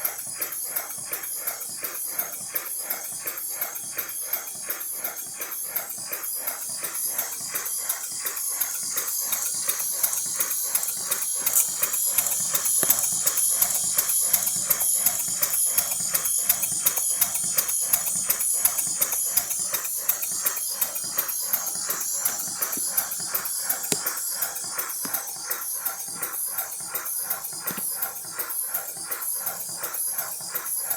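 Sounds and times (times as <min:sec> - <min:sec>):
steam locomotive chuffing: 0:00.0 - 0:30.9
steam hissing: 0:00.6 - 0:30.9.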